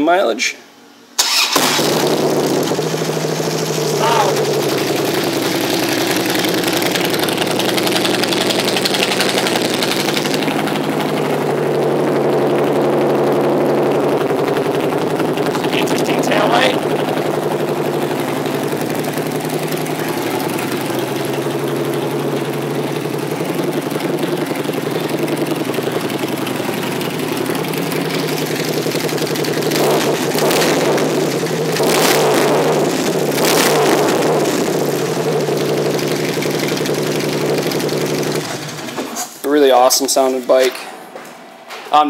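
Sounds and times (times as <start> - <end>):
motorcycle throttle blips: 1.2 - 39.4
motorcycle engine idling: 1.3 - 40.3.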